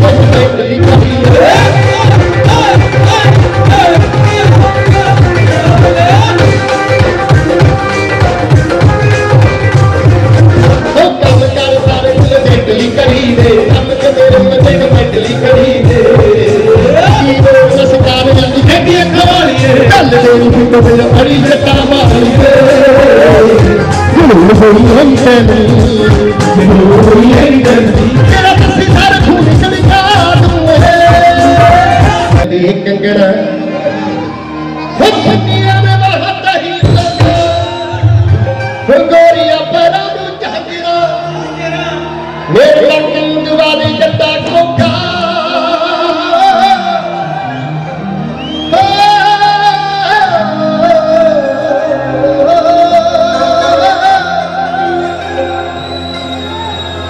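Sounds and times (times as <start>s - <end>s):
man singing over loud beat: 0.0s - 34.0s, 35.0s - 41.3s, 42.5s - 47.4s, 48.7s - 55.6s
band accompaniment: 0.0s - 57.0s.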